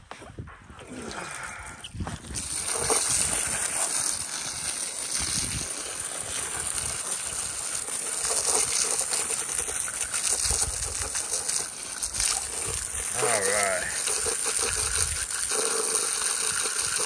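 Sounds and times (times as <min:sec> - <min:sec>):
garden hose spraying water: 0:01.8 - 0:17.0.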